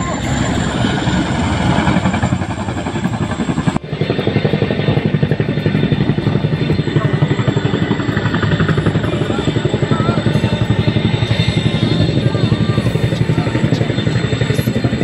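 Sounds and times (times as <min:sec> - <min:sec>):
helicopter rotors beating: 0:00.0 - 0:15.0.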